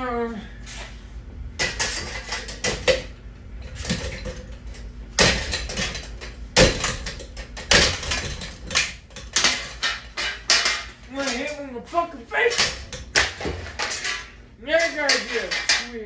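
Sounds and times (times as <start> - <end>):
metal parts clanking: 1.6 - 16.0.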